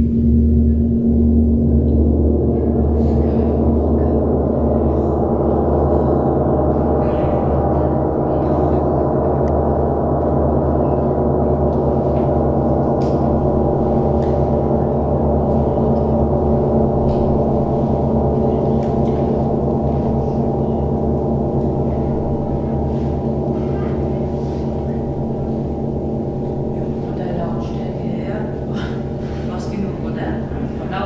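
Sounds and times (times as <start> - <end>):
large gong sounding: 0.0 - 31.0.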